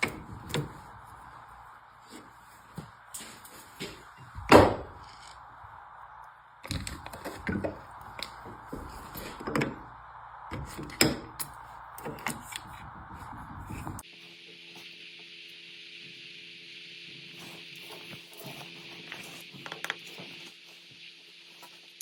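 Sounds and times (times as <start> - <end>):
steady machine hum: 0.0 - 19.6.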